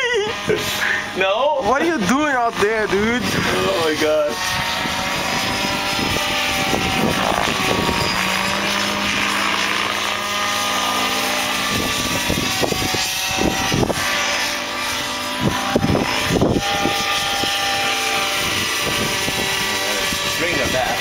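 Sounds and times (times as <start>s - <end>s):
model helicopter engine and rotors: 0.0s - 21.0s
wind buffeting microphone: 0.3s - 21.0s.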